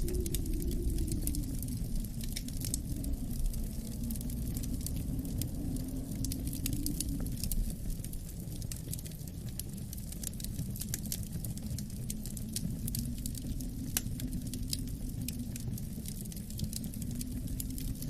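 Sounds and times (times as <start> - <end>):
low rumble of wind: 0.0 - 18.0
wood fire crackling: 0.0 - 18.0.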